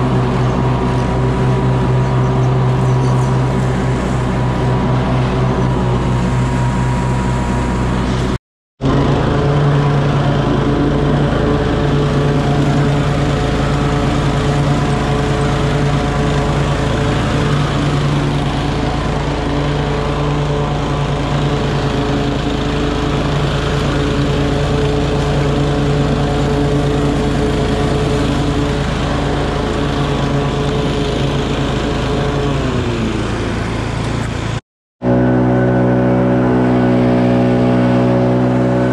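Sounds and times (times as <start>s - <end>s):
lawn mower engine running: 0.0s - 38.9s
stand-on mower engine: 0.0s - 38.9s.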